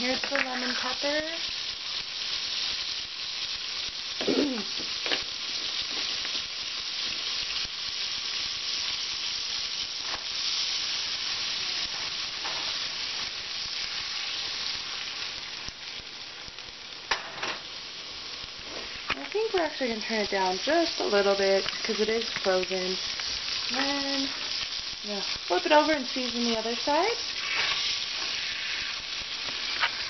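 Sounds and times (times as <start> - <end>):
fish sizzling in frying pan: 0.0 - 30.0.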